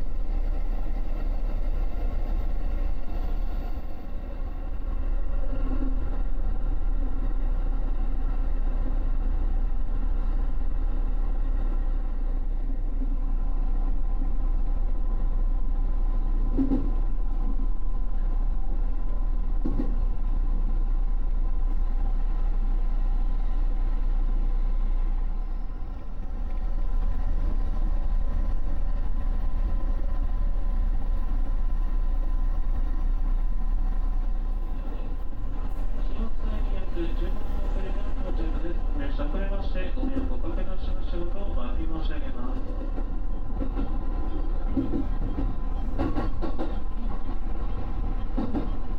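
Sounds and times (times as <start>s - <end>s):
train rumble: 0.0s - 48.9s.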